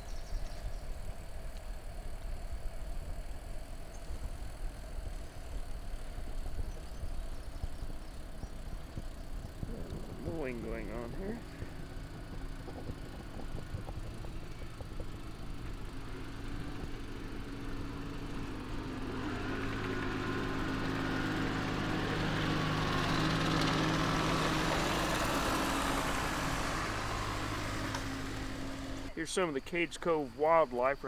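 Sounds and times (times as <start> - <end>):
mowing machine engine: 0.0 - 31.0.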